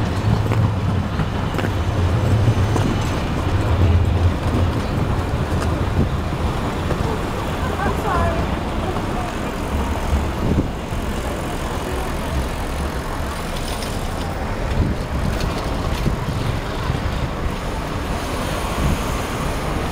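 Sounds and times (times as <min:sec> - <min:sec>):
city street traffic rumble: 0:00.0 - 0:19.9.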